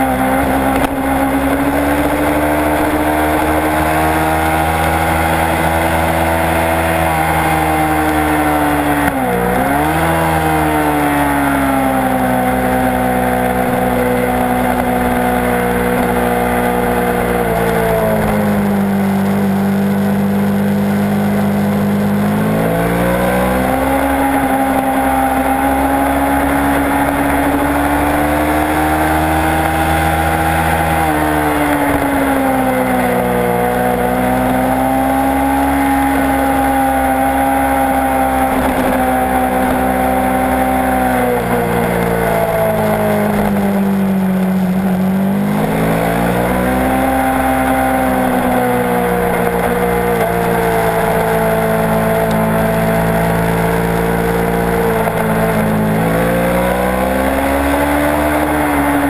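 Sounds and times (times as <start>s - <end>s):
motorcycle engine running hard: 0.0s - 59.0s.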